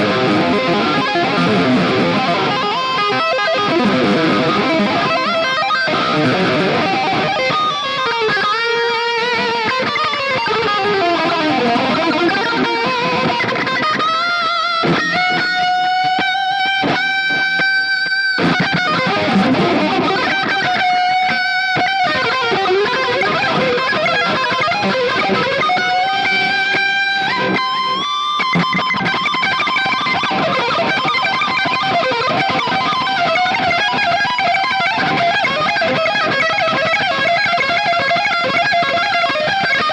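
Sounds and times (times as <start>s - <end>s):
electric guitar shred lead: 0.0s - 39.9s.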